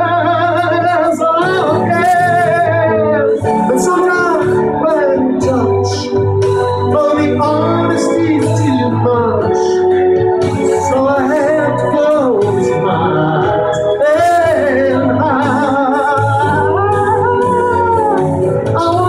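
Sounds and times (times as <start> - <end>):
karaoke backing track chords: 0.0 - 19.0
man singing into microphone: 0.0 - 19.0.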